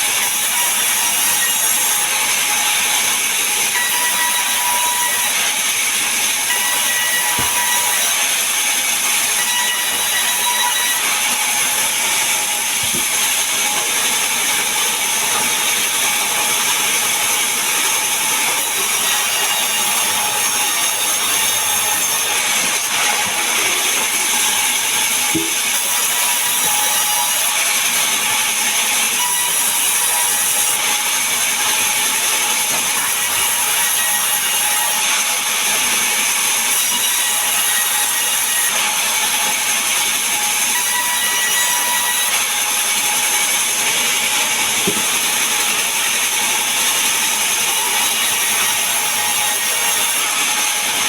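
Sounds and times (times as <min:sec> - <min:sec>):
power saw cutting wood: 0:00.0 - 0:51.0.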